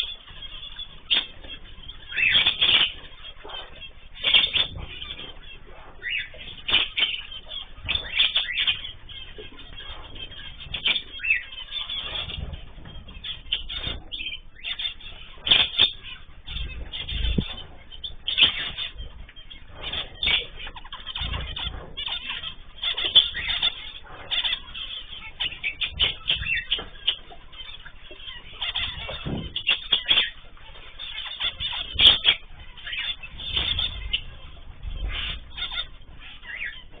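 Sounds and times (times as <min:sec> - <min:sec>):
cage birds chirping and calling: 0:00.0 - 0:37.0.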